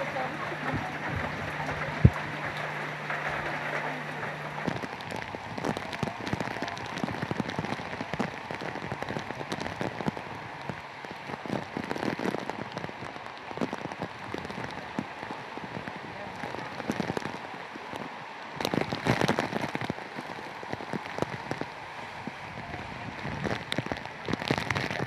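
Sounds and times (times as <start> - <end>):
heavy rain: 0.0 - 25.0
people wading through water: 0.0 - 25.0
rushing floodwater: 0.0 - 25.0.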